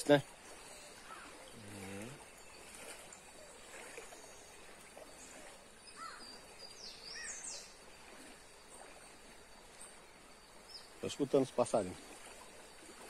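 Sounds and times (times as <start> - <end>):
birds chirping and whistling: 0.4 - 11.4.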